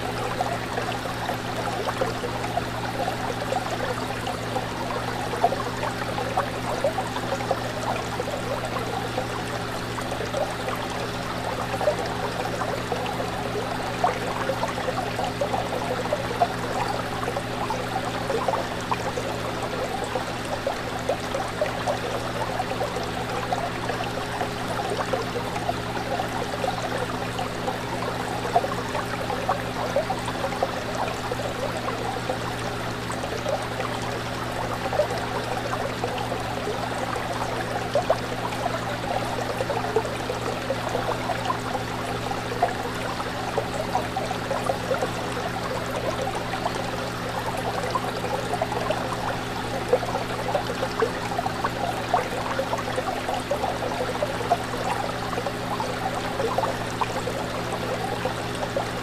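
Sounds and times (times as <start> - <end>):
aquarium pump hum: 0.0 - 59.0
fish tank water bubbling: 0.0 - 59.0.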